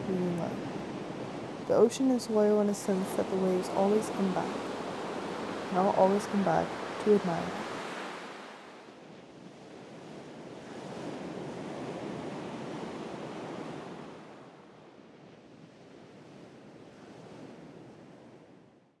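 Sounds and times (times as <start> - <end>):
ocean surf on sandy beach: 0.0 - 18.8.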